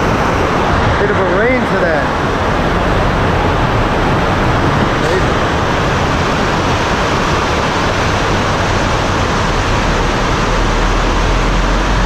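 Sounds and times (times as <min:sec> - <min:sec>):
low rumble: 0:00.0 - 0:12.0
rain falling: 0:00.0 - 0:12.0.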